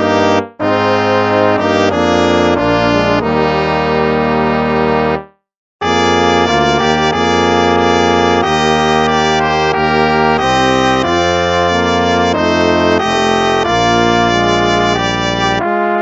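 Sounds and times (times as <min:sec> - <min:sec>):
brass playing slow hymn chords: 0:00.0 - 0:16.0.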